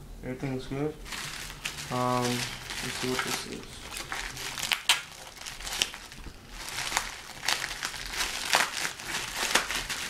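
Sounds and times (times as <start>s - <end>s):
plastic packaging crinkling: 1.0s - 10.0s.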